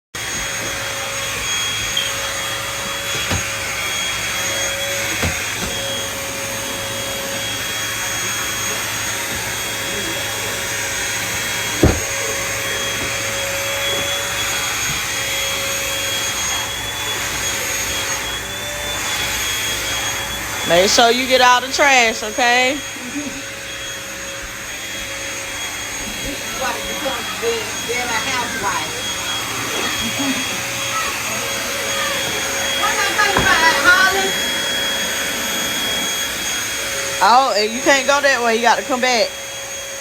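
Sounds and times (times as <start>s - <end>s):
vacuum cleaner running: 0.1s - 40.0s.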